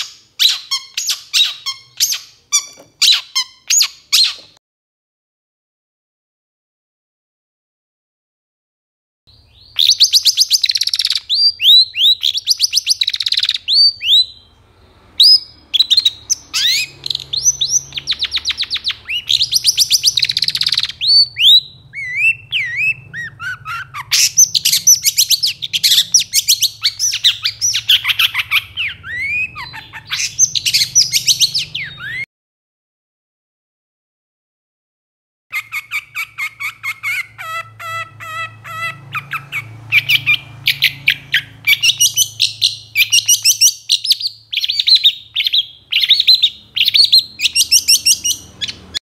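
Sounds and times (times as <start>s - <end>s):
bird singing harsh trills: 0.0s - 4.6s, 9.3s - 32.3s, 35.5s - 49.0s.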